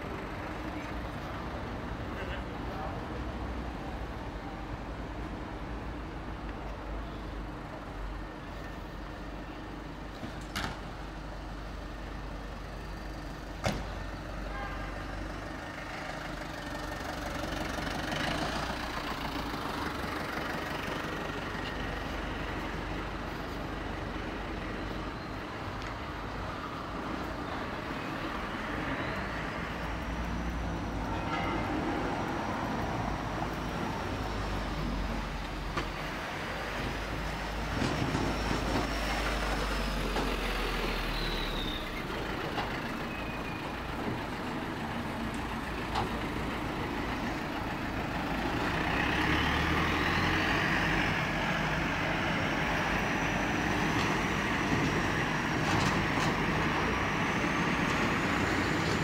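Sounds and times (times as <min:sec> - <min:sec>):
street ambience: 0:00.0 - 0:59.0.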